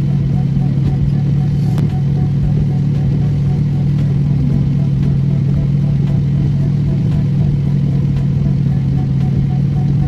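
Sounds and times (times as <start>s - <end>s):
cabin ventilation: 0.0s - 10.0s
car engine idling: 0.0s - 10.0s.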